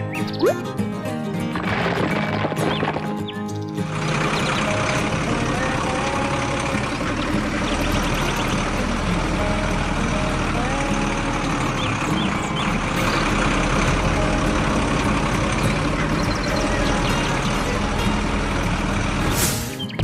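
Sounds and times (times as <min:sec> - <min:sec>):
cartoon tractor engine running: 0:00.0 - 0:20.0.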